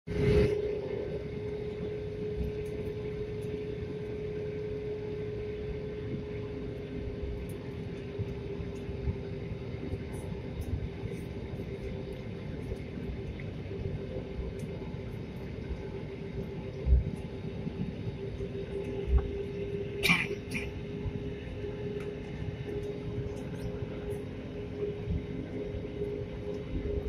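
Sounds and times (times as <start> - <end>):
aircraft cabin engine drone: 0.0 - 27.0.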